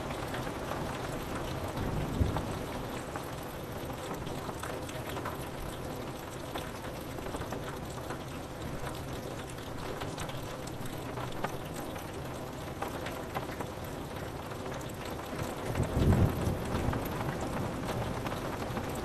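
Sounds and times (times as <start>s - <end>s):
rain hissing on window glass: 0.0s - 19.0s
raindrops ticking on pane: 0.0s - 19.0s.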